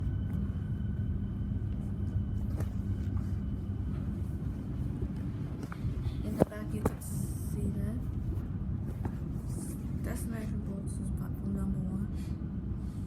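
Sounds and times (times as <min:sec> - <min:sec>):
faint train whine: 0:00.0 - 0:13.0
train running rumble: 0:00.0 - 0:13.0.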